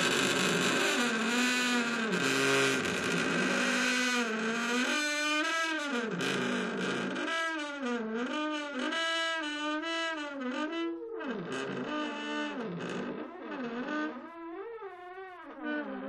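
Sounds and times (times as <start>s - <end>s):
wooden door creaking on hinges: 0.0s - 16.0s.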